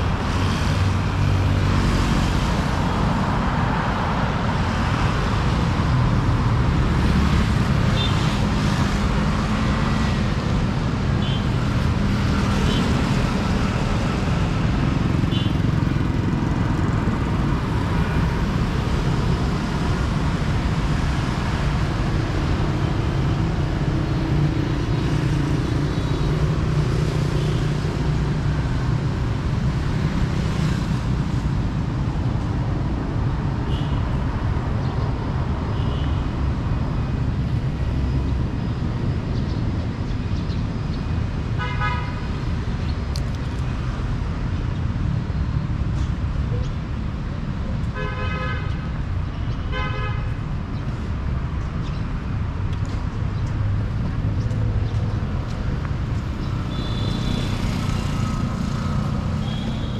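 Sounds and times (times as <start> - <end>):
cars passing: 0.0 - 59.9
motorbikes passing: 0.0 - 59.9.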